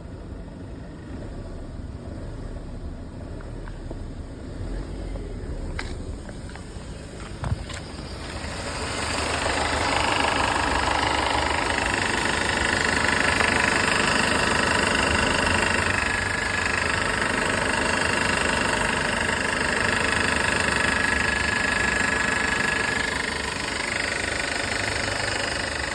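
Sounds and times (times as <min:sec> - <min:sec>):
car engine rattling: 0:00.0 - 0:25.9
high engine whine: 0:00.0 - 0:25.9.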